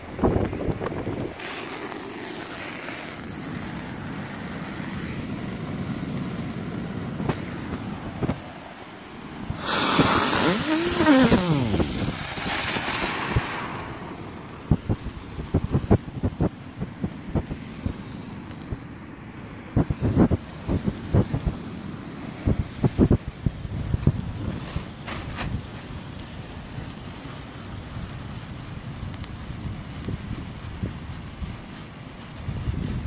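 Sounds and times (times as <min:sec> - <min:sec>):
firework crackling pops: 0:00.0 - 0:33.0
firework spark fountain hissing: 0:00.2 - 0:33.0.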